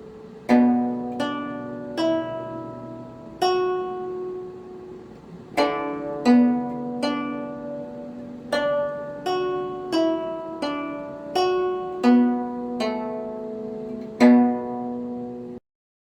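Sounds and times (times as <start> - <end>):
plucked string melody: 0.0 - 15.6.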